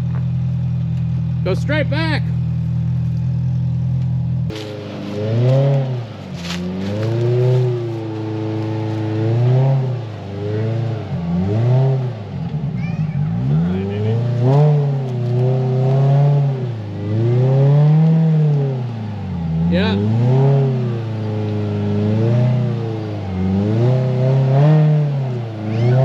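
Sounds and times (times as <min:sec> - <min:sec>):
engine revving: 0:01.4 - 0:26.0.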